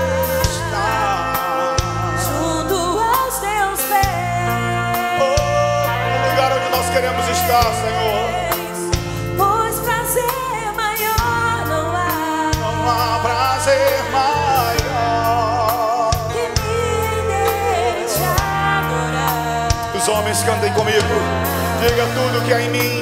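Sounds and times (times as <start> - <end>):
woman singing with vibrato: 0.0 - 13.3, 16.3 - 21.9
band with bass and drums: 0.0 - 23.0.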